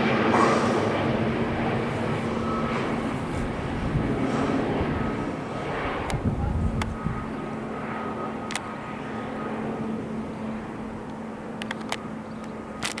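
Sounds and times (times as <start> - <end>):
jet airliner rumble overhead: 0.0 - 13.0
wind buffeting microphone: 0.0 - 13.0.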